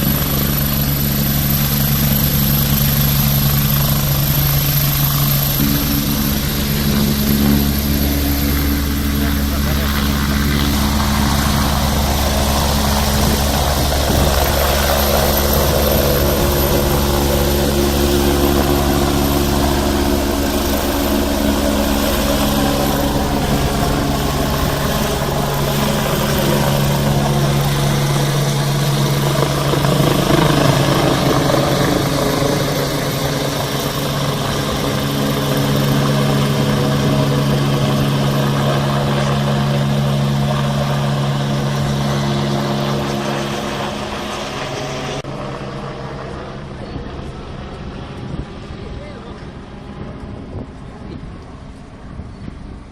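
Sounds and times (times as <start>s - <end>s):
helicopter turbine whine and rotor: 0.0s - 52.9s.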